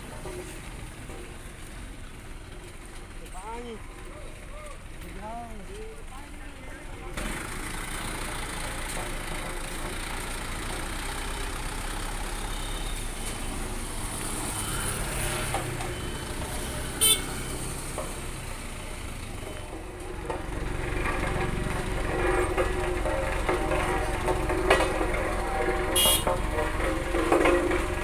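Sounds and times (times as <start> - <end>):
dump truck engine running: 0.0 - 28.0.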